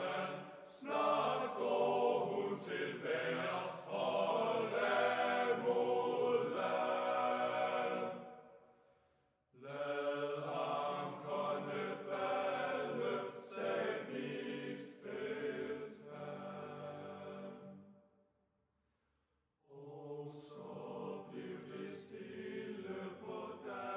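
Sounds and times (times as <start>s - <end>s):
choir singing sustained chords: 0.0s - 9.0s, 9.6s - 18.1s, 19.7s - 23.9s.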